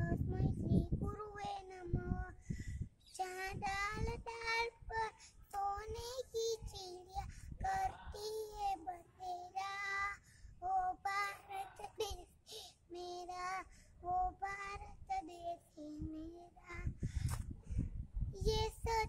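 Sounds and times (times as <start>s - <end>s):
child singing: 0.0s - 2.4s, 3.0s - 17.0s, 18.3s - 19.0s.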